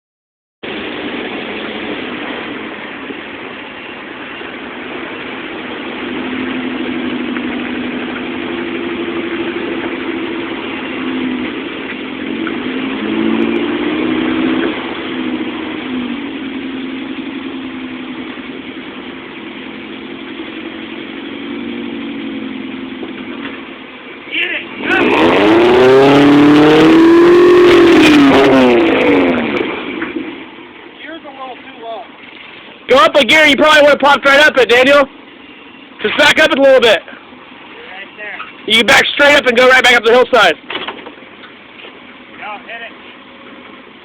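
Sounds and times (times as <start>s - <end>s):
car engine running: 0.6s - 44.0s.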